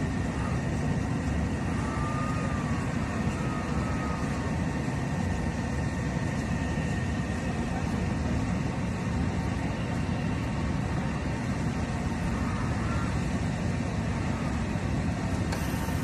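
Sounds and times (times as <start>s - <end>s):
welding machine crackling hum: 0.0s - 16.0s.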